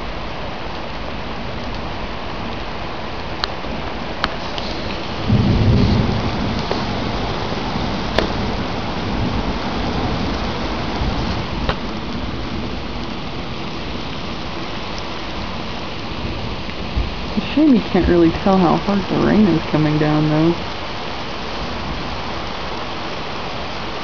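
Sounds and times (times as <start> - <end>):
heavy rain on pavement and roof: 0.0 - 24.0.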